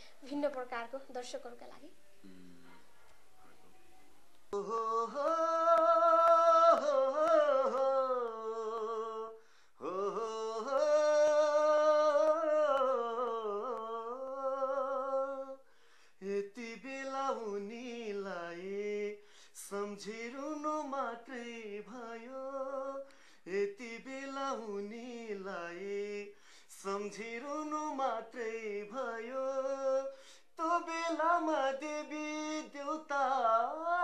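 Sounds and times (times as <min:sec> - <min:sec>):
man singing unaccompanied: 0:04.5 - 0:34.0.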